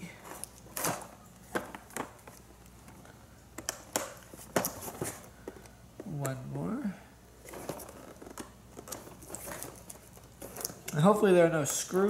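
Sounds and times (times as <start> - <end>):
faint packaging rustling: 0.0 - 6.5, 7.4 - 12.0.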